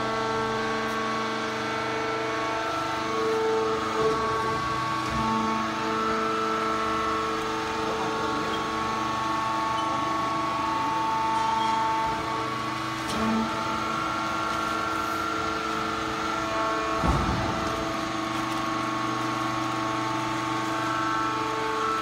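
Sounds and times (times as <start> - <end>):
industrial machine hum: 0.0 - 22.0.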